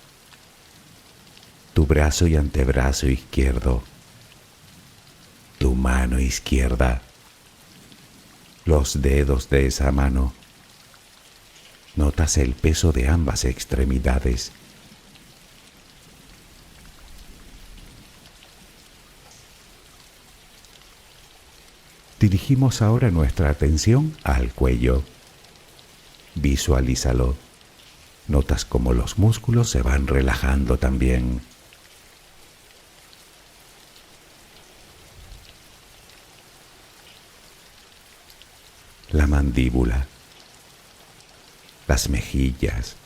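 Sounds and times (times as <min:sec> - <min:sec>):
soft rain falling: 0:00.0 - 0:43.0.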